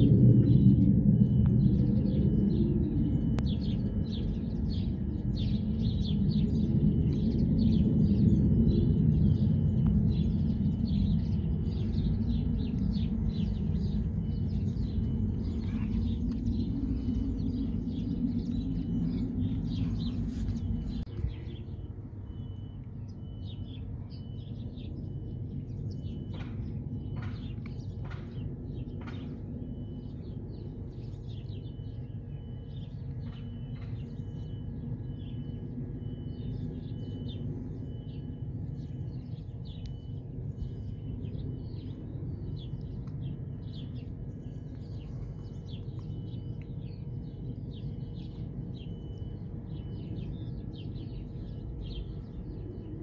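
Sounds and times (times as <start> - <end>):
steady low rumble: 0.0 - 53.0
small birds chirping: 0.4 - 53.0.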